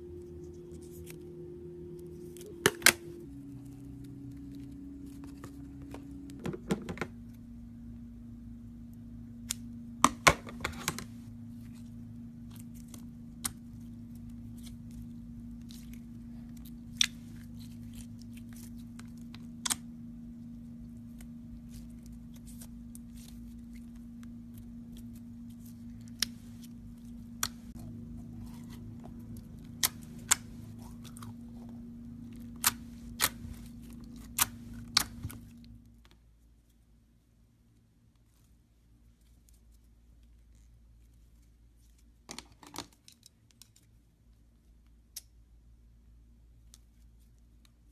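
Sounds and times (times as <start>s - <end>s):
steady low hum: 0.0s - 42.3s.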